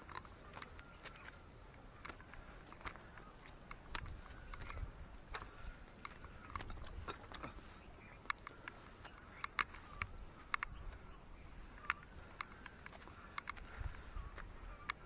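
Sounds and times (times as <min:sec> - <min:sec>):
footsteps through dry grass: 0:00.0 - 0:15.0.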